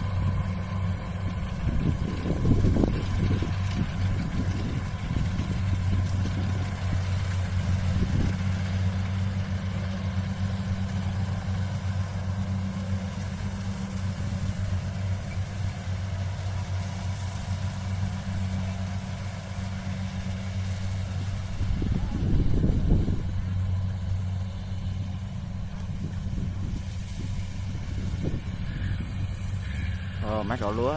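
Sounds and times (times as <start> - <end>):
machinery engine humming: 0.0 - 30.9.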